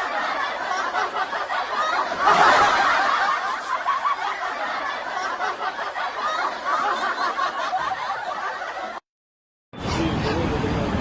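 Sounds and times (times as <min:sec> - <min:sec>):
people laughing together: 0:00.0 - 0:09.1.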